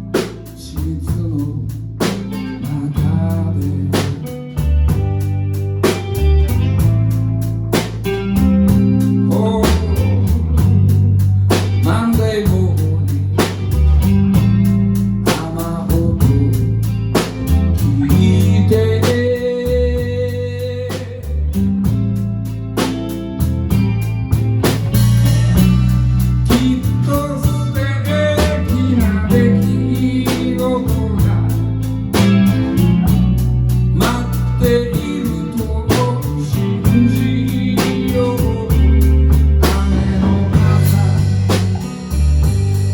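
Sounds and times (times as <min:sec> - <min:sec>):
drum kit beat: 0:00.0 - 0:42.9
guitar: 0:00.0 - 0:42.9
low bass line: 0:00.0 - 0:42.9.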